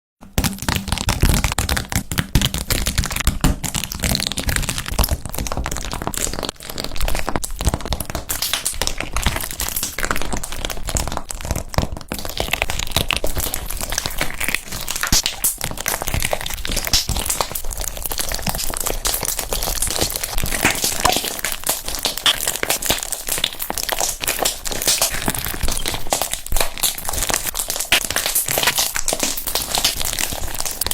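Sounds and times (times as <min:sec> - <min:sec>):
slime squishing and crackling: 0:00.2 - 0:30.9.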